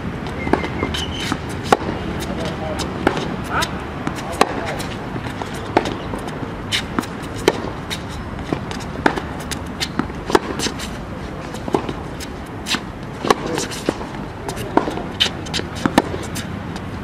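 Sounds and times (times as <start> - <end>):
rackets striking tennis ball: 0.1 - 17.0
tennis ball bouncing: 0.1 - 17.0
shoes scuffing on court: 0.2 - 17.0.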